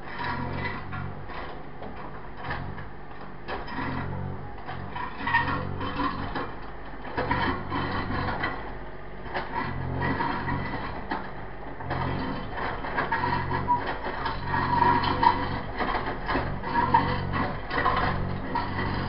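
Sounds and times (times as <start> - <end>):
machine clanks and rattles: 0.0 - 19.0
mini digger engine under load: 0.0 - 19.0.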